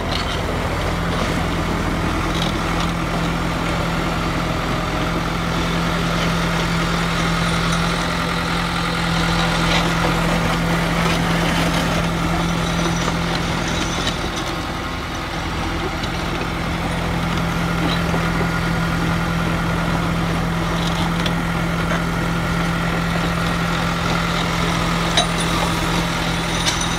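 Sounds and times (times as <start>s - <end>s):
diesel engine idling: 0.0s - 26.9s.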